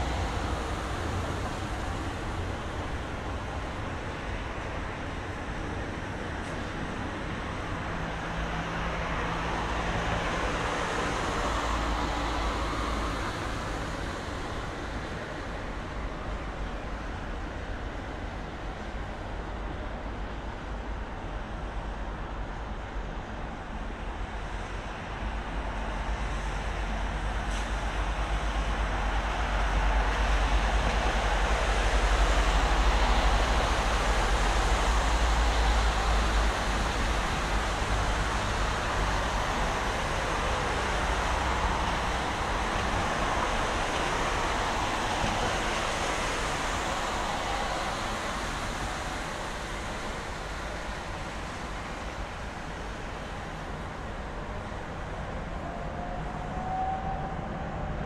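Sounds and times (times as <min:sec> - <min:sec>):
city road traffic rumble: 0:00.0 - 0:58.0.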